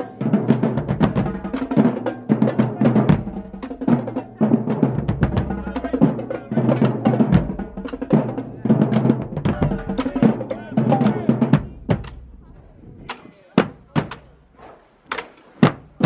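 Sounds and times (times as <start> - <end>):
drumline playing: 0.0 - 16.0.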